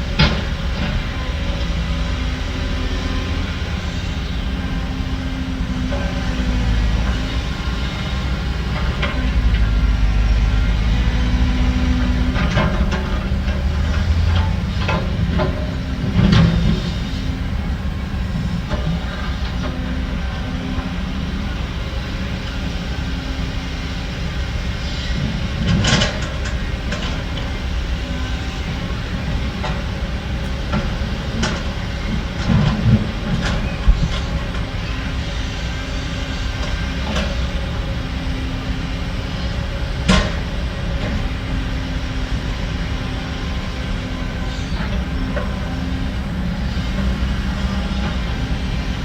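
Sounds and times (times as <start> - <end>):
diesel machinery rumbling: 0.0 - 49.0.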